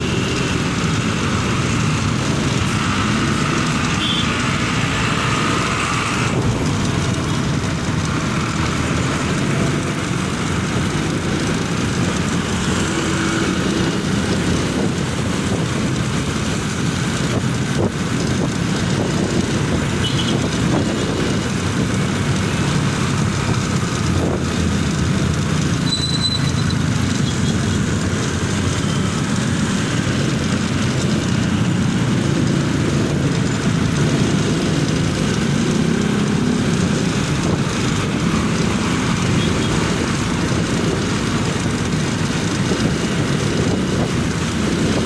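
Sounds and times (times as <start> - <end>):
motorcycle engine and road noise: 0.0 - 45.0.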